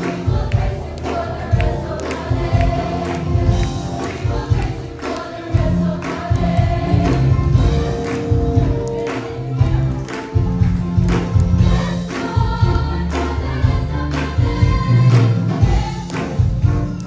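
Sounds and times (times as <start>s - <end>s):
bass-heavy accompaniment with beat: 0.0s - 17.0s
mixed choir singing gospel: 0.0s - 17.0s.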